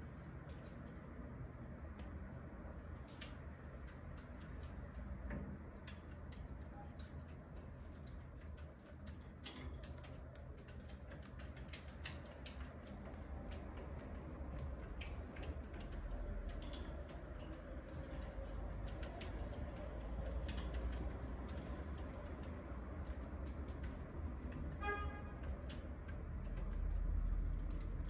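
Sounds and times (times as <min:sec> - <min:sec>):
claws and beaks tapping cage bars: 0:00.0 - 0:28.0.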